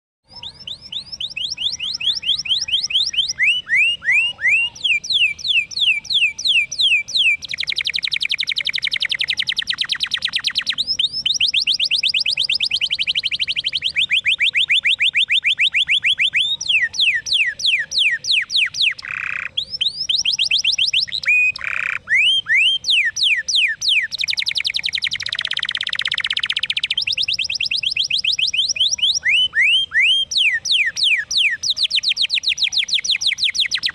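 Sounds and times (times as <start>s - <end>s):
canary singing: 0.2s - 33.9s.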